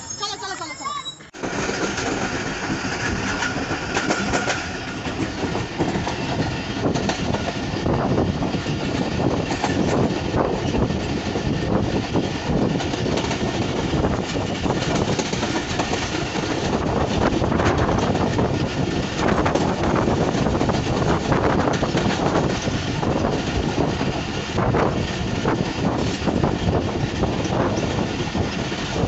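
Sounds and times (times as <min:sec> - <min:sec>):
train wheels clattering on rails: 0:01.4 - 0:29.0.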